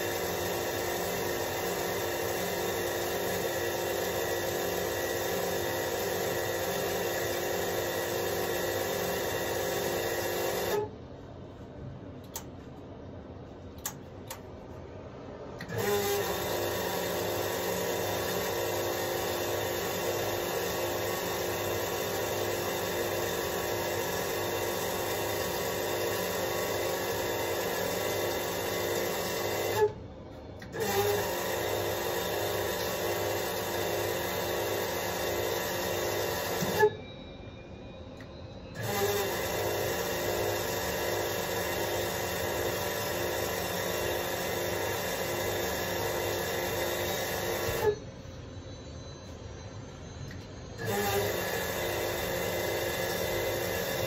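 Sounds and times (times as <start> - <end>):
electric oil pump humming: 0.0 - 11.0, 15.4 - 37.0, 38.2 - 54.0.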